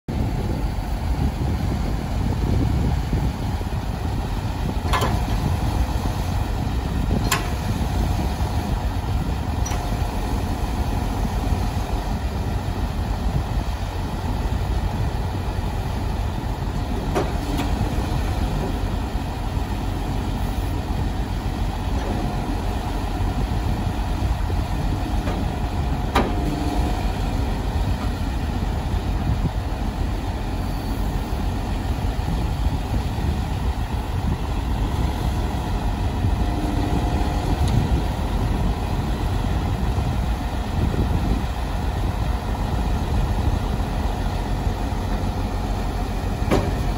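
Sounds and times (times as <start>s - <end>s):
diesel engine idling: 0.1s - 46.9s.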